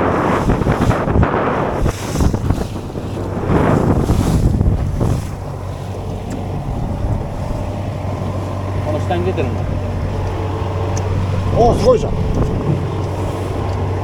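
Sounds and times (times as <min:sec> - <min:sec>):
boat engine low hum: 0:00.0 - 0:14.0
wind gusting on microphone: 0:00.0 - 0:14.0.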